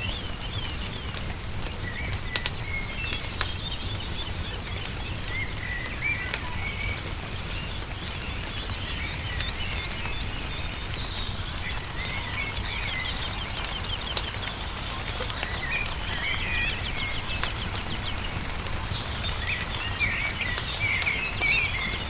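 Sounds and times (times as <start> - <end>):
songbirds chirping: 0.0 - 22.0
wood fire popping and crackling: 0.0 - 22.0.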